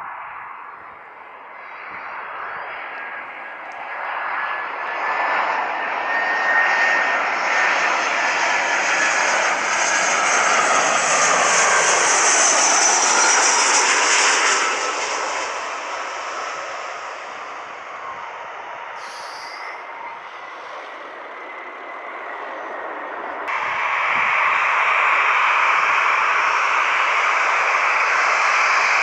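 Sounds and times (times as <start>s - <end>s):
aircraft engines with high whine: 0.0s - 29.0s.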